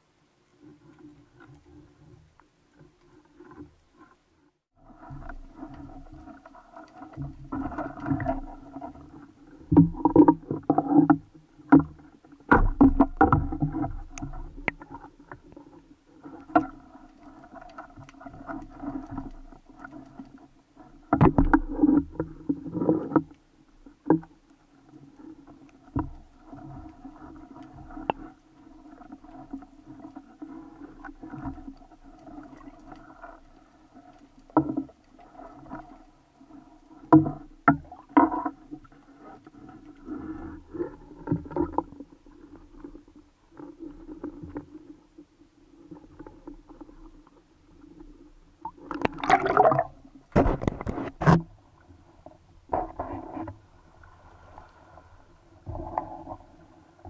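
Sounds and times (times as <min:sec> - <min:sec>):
underwater droning hum: 0:00.5 - 0:57.0.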